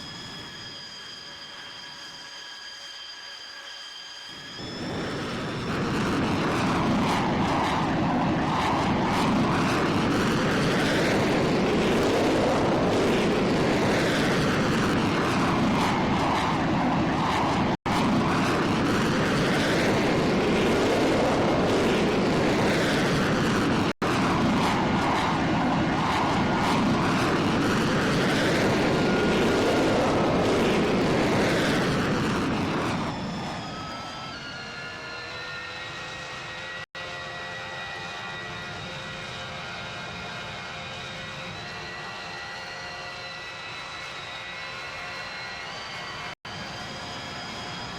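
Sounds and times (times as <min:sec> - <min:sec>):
airplane passing overhead: 0:00.0 - 0:47.9.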